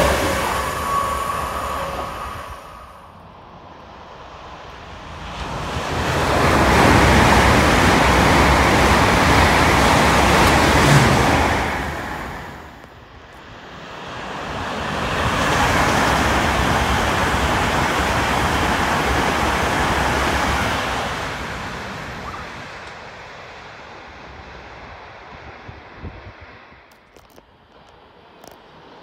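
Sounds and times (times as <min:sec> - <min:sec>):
express train passing: 0:00.0 - 0:26.9.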